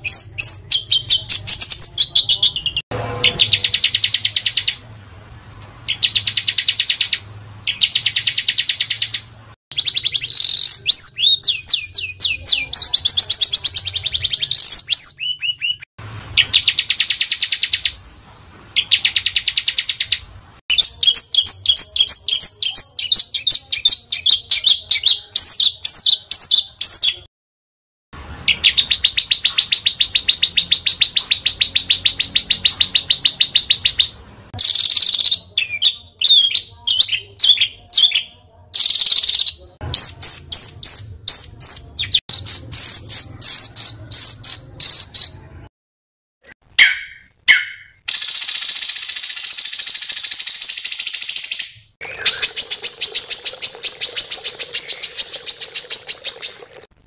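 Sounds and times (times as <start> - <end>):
songbird singing harsh trills: 0.0 - 4.8, 5.9 - 18.0, 18.8 - 27.3, 28.5 - 45.5, 46.8 - 56.7.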